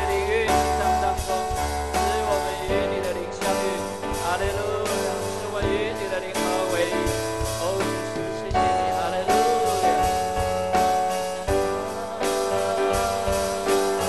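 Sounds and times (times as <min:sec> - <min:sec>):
people singing: 0:00.0 - 0:14.0
worship band playing chords: 0:00.0 - 0:14.0.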